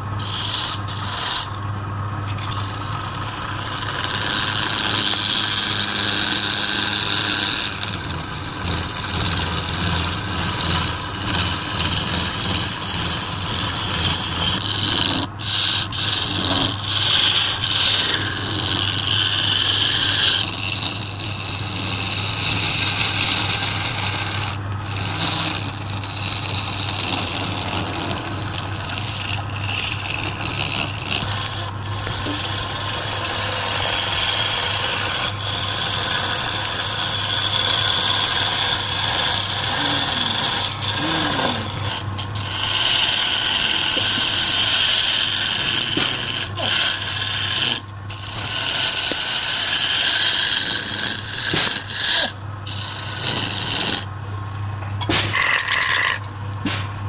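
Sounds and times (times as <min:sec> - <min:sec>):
chisel scraping spinning wood: 0:00.0 - 0:54.1
wood lathe humming: 0:00.0 - 0:54.1.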